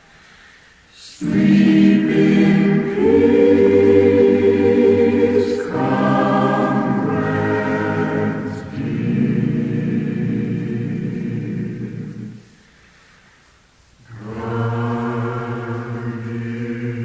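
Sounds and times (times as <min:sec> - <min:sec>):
choir singing held chords: 0:00.9 - 0:12.9, 0:14.1 - 0:17.0.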